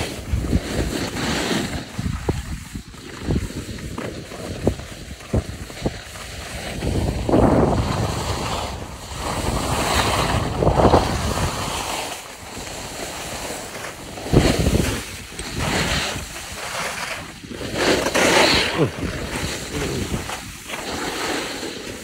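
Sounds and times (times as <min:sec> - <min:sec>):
wind buffeting microphone: 0:00.0 - 0:20.8
skis scraping over packed snow: 0:00.0 - 0:22.0.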